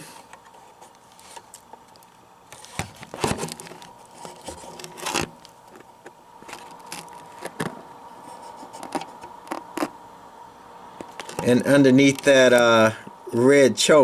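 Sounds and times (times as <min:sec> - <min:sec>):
faint steady hum: 0:00.0 - 0:14.0
hands handling wiring and camera: 0:00.3 - 0:10.0, 0:11.0 - 0:12.9.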